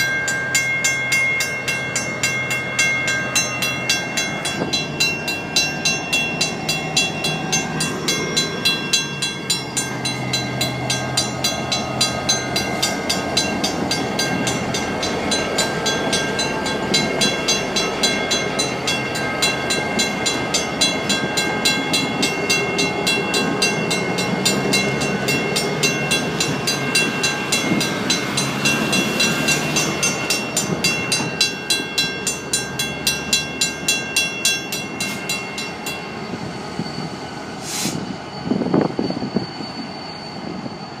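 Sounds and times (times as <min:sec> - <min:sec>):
crossing signal bell ringing: 0:00.0 - 0:41.0
diesel locomotives rumbling: 0:00.0 - 0:41.0.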